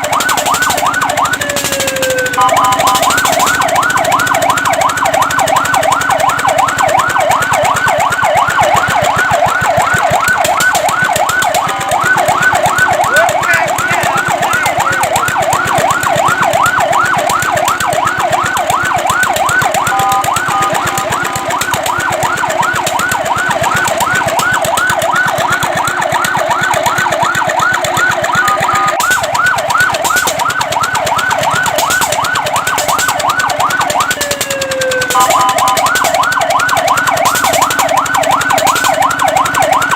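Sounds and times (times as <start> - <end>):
fire truck siren yelping: 0.0 - 39.9
two-note siren tone: 0.0 - 39.9.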